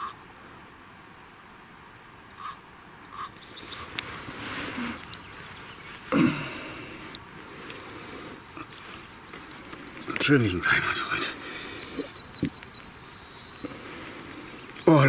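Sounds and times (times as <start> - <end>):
crickets chirping: 2.4 - 15.0.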